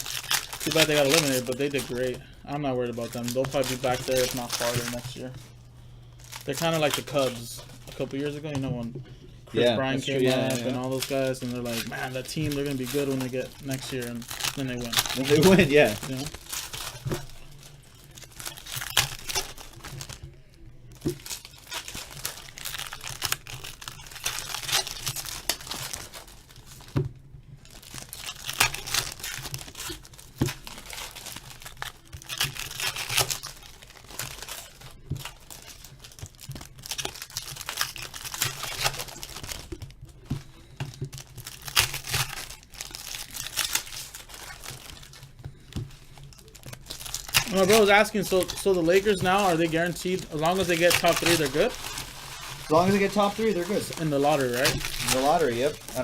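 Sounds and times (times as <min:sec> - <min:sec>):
card wrappers tearing and crinkling: 0:00.0 - 0:09.0, 0:09.6 - 0:56.0
cards rustling: 0:00.0 - 0:56.0.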